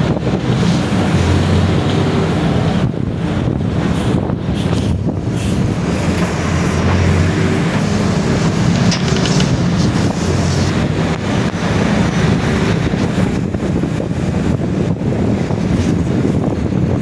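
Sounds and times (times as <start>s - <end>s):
bus diesel engine running: 0.0s - 17.0s
road and wind noise: 0.0s - 17.0s.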